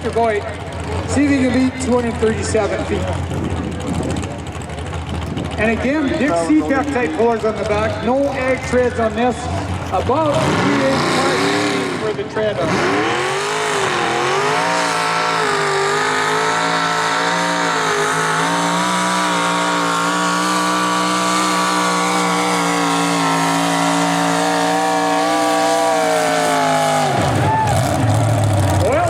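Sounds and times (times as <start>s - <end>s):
tractor engine running flat out: 0.0s - 29.0s.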